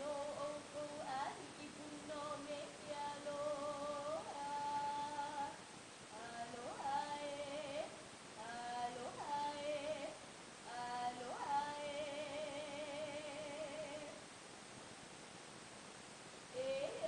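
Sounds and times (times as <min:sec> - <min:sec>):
woman chanting unaccompanied: 0:00.0 - 0:14.2, 0:16.5 - 0:17.0.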